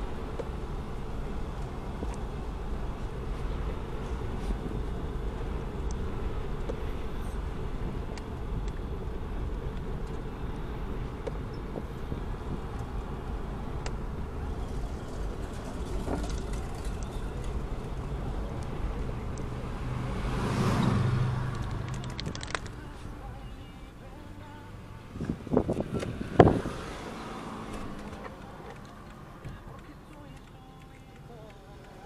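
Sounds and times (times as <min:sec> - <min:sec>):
vehicle passing: 0:00.0 - 0:30.4
street traffic rumble: 0:00.0 - 0:32.0.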